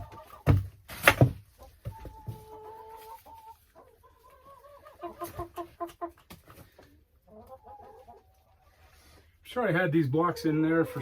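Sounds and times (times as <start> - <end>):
chickens calling: 0.0 - 11.0
chickens clucking: 0.0 - 11.0.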